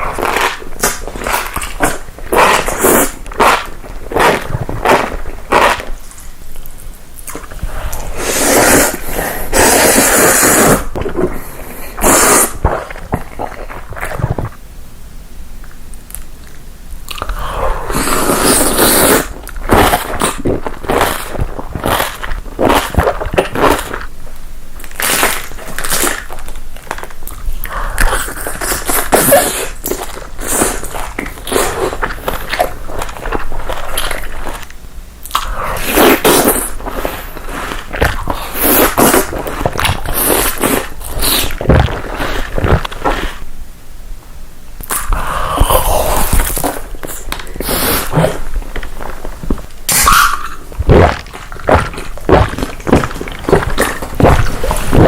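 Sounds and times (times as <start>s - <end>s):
biting and chewing crunchy food: 0.0s - 10.2s, 10.8s - 14.6s, 15.6s - 43.5s, 44.8s - 55.0s.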